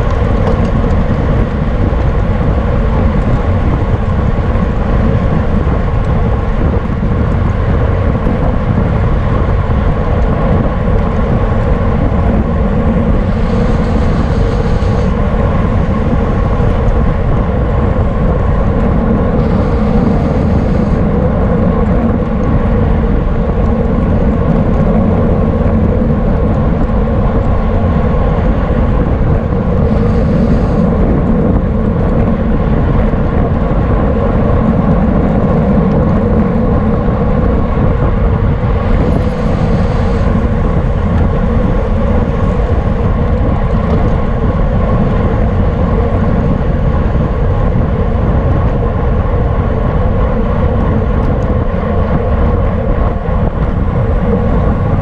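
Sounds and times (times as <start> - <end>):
constant hum: 0.0 - 55.0
wind and road noise: 0.0 - 55.0.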